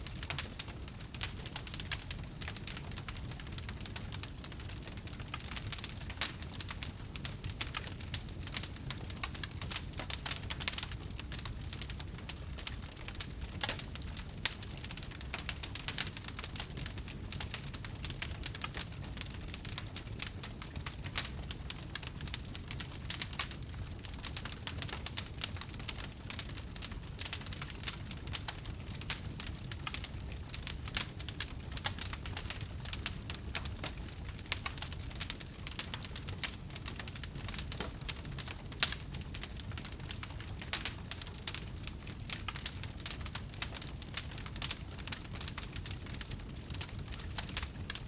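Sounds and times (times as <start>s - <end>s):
fire snapping: 0.0s - 48.0s
low rumble of burning: 0.0s - 48.0s
wood fire crackling: 0.0s - 48.0s.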